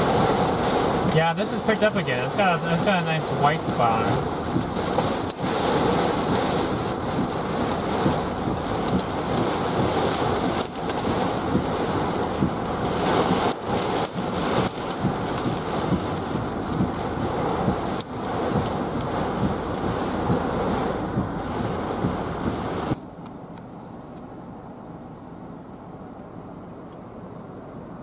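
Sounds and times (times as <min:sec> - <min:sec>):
heavy rain on vehicle windshield: 0:00.0 - 0:23.0.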